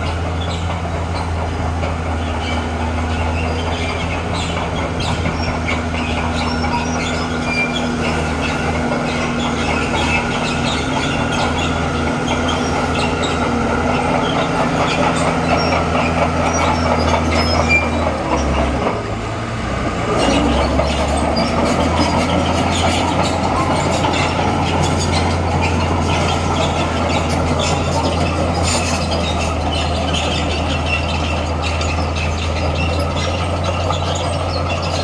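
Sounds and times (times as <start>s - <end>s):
bulldozer diesel engine: 0.0s - 35.0s
crawler tracks squealing and clanking: 0.0s - 35.0s.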